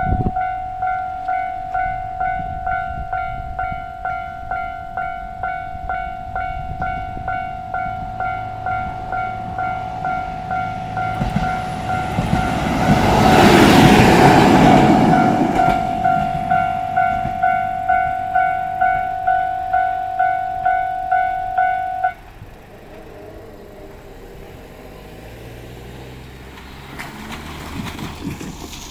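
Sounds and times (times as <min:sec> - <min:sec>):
level crossing warning bell: 0:00.0 - 0:25.8
train passing: 0:00.0 - 0:28.9.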